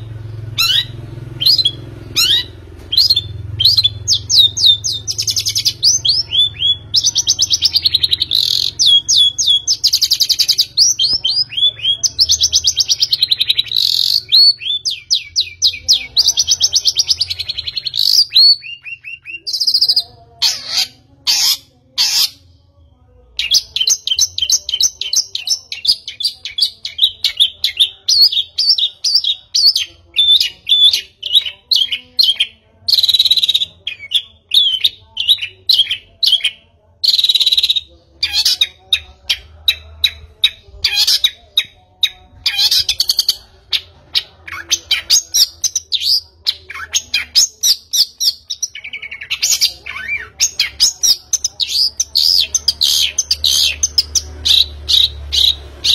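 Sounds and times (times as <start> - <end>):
bird chirping: 0.0 - 55.9.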